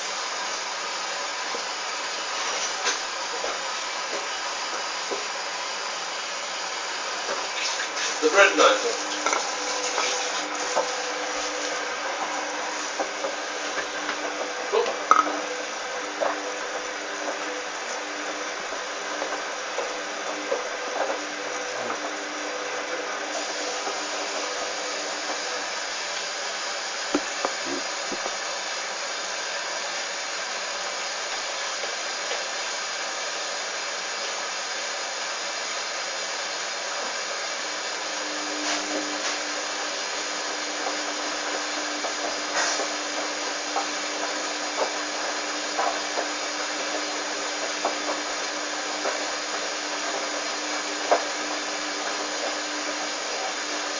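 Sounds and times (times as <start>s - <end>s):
washing machine running: 0.0s - 53.9s.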